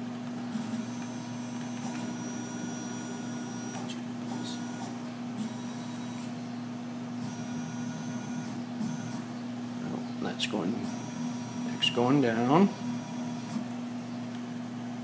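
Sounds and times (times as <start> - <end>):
steady machine hum: 0.0 - 15.0
drive motors whining: 0.3 - 14.4.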